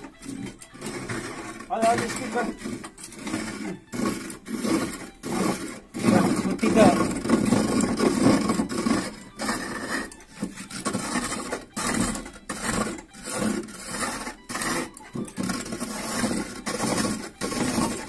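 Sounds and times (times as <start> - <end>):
chisel scraping wood on lathe: 0.0 - 18.0.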